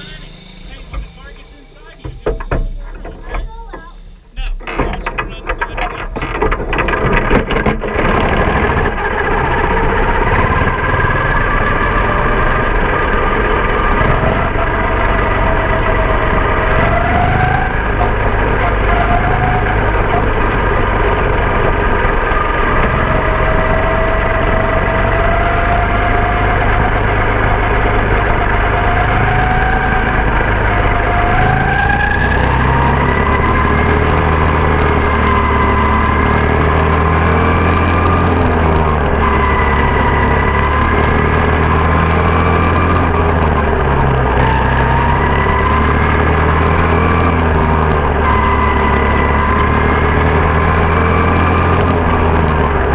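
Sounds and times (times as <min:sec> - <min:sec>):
small race car engine: 0:00.0 - 0:52.9.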